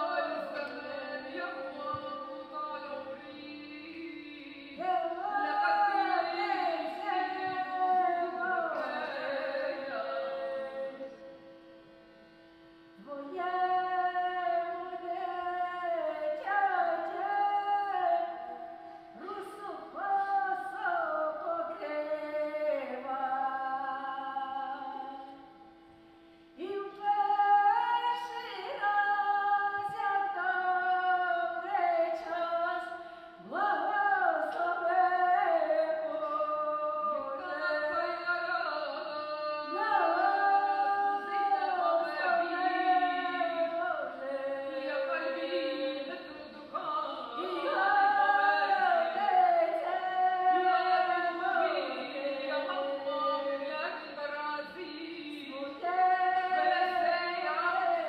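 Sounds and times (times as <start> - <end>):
woman singing unaccompanied: 0.0 - 11.4, 13.0 - 25.4, 26.6 - 58.0.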